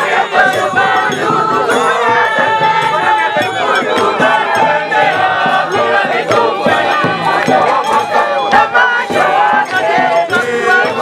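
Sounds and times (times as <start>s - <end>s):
crowd singing together: 0.0s - 11.0s
steady percussion beat: 0.0s - 11.0s.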